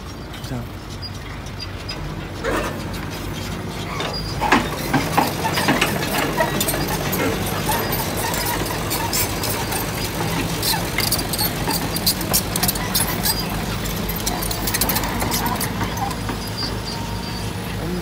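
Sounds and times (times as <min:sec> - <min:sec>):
excavator diesel engine running: 0:00.0 - 0:18.0
sharp metallic clicks and clanks: 0:00.4 - 0:17.0.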